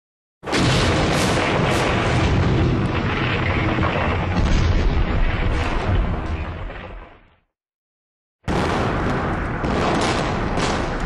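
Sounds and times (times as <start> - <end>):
rumbling explosion with crackles: 0.4 - 7.5, 8.5 - 11.0.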